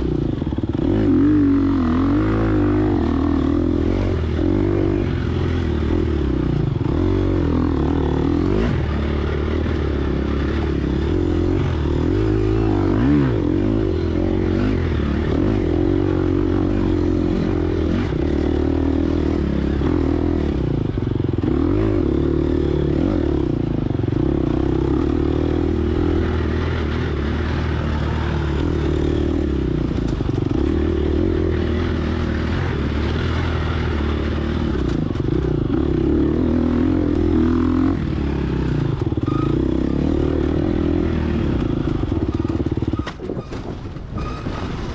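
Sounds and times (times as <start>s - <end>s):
bike rattling and scraping: 0.0s - 44.9s
dirt bike engine revving: 0.0s - 44.9s.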